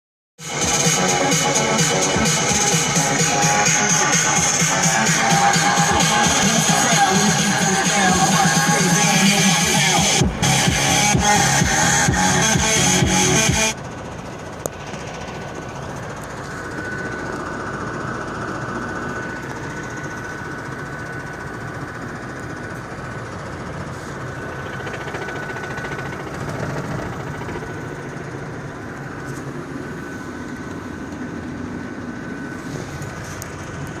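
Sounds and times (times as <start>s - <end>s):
car engine knocking: 0.4s - 34.0s.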